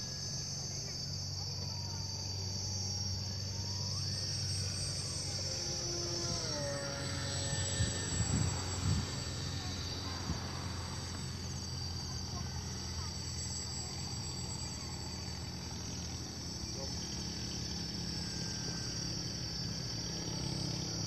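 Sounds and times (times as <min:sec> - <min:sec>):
insects trilling: 0:00.0 - 0:21.0
model plane motor droning: 0:00.0 - 0:21.0.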